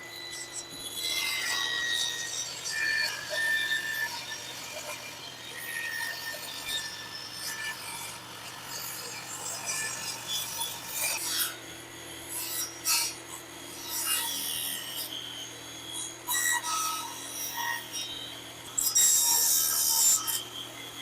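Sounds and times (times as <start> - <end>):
saw motor hum: 0.0 - 21.0
saw rasping through wood: 0.0 - 21.0.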